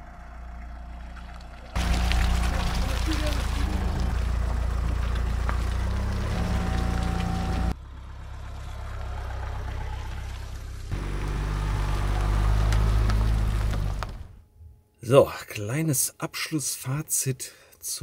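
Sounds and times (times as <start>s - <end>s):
van engine humming: 0.0s - 14.9s.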